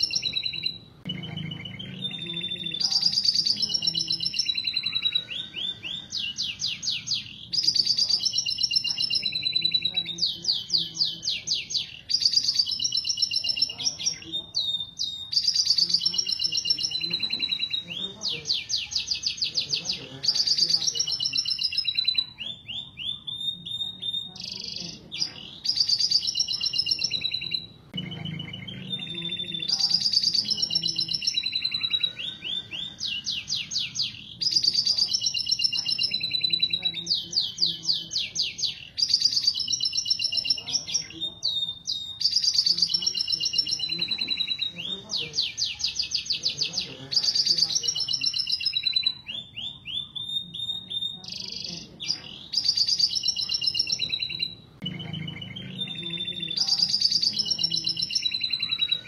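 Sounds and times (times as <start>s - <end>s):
canary chirping and trilling: 0.0s - 59.0s.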